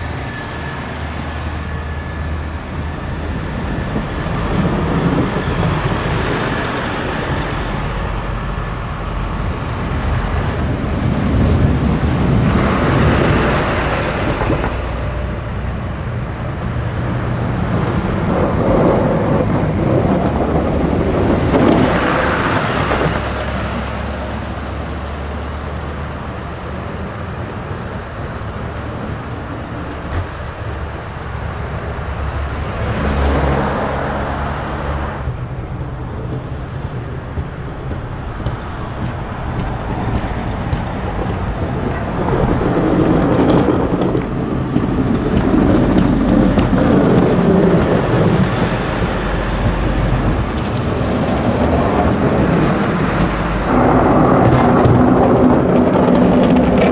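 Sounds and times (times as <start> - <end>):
diesel truck engines rumbling: 0.0 - 56.9
plow blade pushing snow: 0.0 - 56.9.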